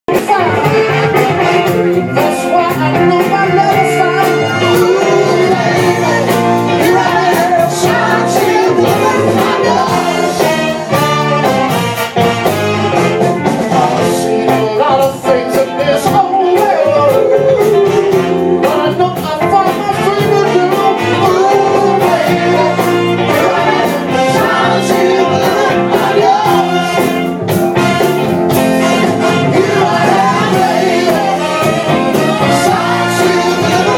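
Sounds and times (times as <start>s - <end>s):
lead vocal singing: 0.1s - 12.1s, 13.4s - 33.9s
live band playing soul music: 0.1s - 33.9s.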